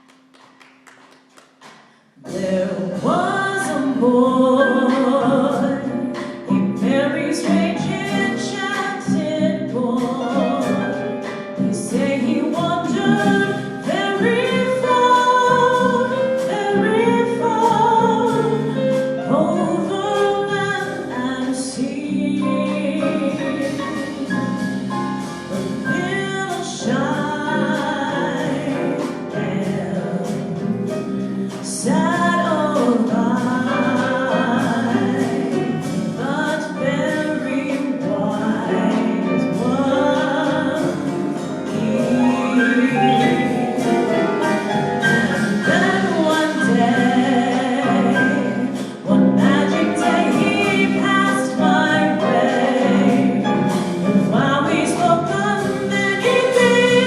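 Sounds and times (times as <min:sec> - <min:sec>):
instrumental accompaniment: 0:00.0 - 0:57.0
woman singing: 0:02.2 - 0:24.4, 0:25.9 - 0:30.7, 0:31.4 - 0:57.0.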